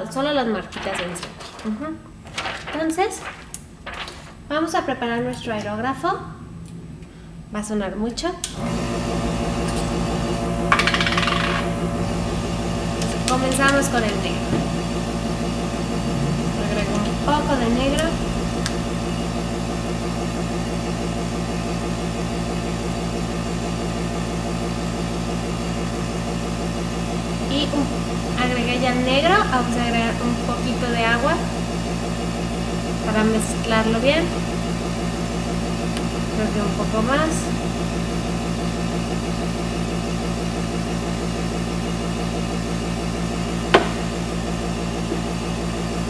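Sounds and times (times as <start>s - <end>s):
compressor motor humming: 8.4s - 46.0s.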